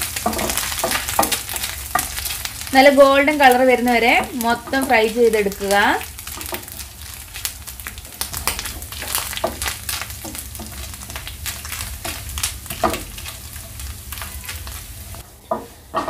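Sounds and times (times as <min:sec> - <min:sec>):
wooden spatula scraping a pan: 0:00.0 - 0:05.1, 0:08.0 - 0:16.0
coconut sizzling in a pan: 0:00.0 - 0:16.0.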